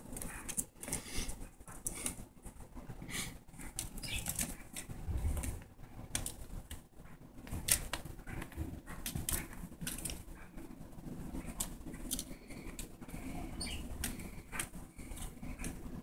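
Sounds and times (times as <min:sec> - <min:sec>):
kitten claws scratching carpet: 0:00.0 - 0:16.0.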